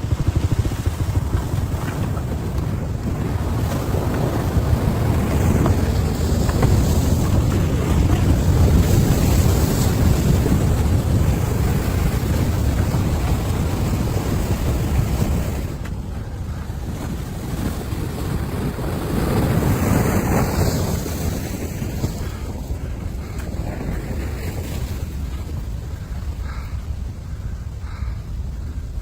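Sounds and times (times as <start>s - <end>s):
churning water: 0.0s - 28.1s
wind buffeting microphone: 0.0s - 29.0s.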